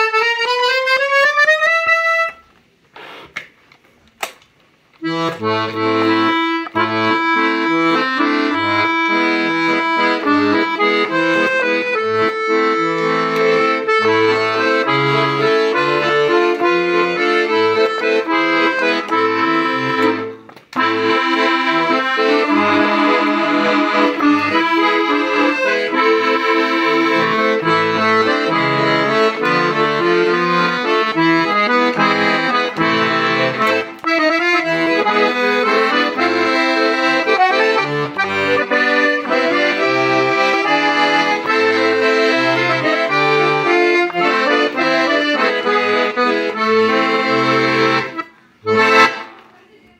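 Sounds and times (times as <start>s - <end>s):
accordion playing a tune: 0.0s - 2.6s, 5.0s - 49.6s.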